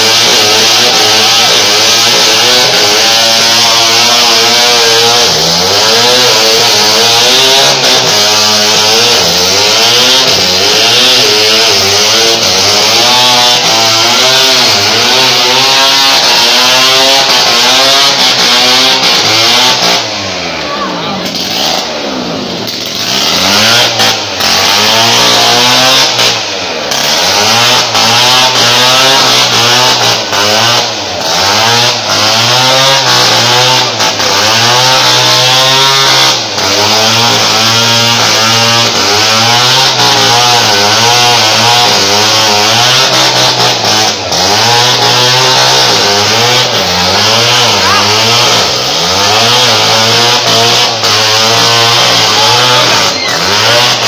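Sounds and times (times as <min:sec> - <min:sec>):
small engine revving: 0:00.0 - 0:54.0.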